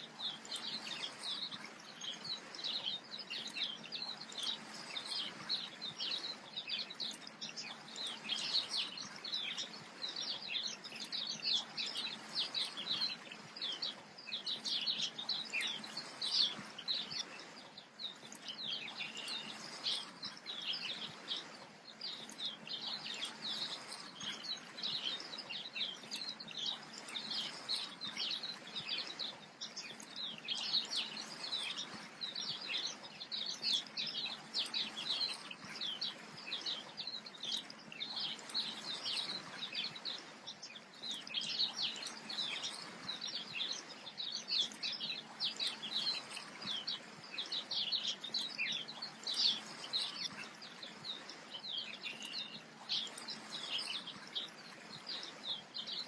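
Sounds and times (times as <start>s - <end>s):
chorus of small birds chirping: 0.0s - 56.0s.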